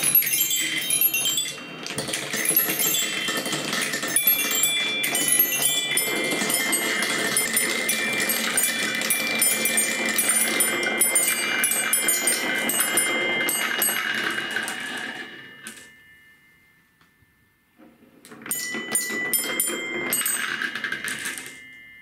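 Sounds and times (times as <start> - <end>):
glass marbles clattering down wooden run: 0.0 - 15.9, 18.4 - 21.6
chime-like ringing: 0.0 - 22.0.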